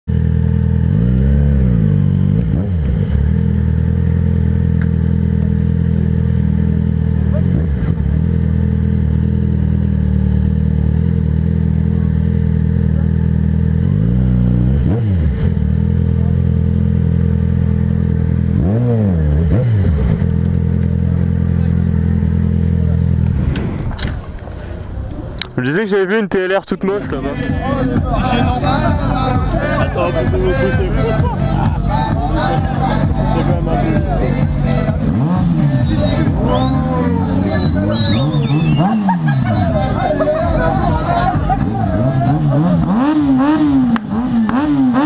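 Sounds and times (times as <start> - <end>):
motorcycle engine running: 0.0 - 25.6, 26.8 - 45.0
motorcycle throttle blips: 0.1 - 25.6, 27.7 - 45.0.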